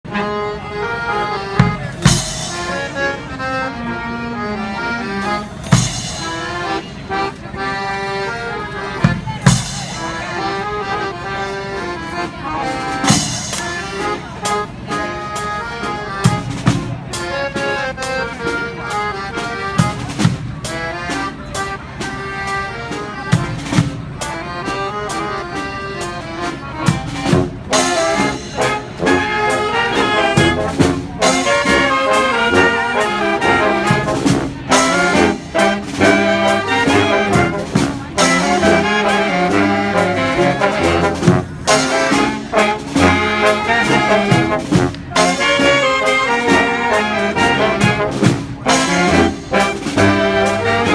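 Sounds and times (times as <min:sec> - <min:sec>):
brass street band playing: 0:00.0 - 0:50.9.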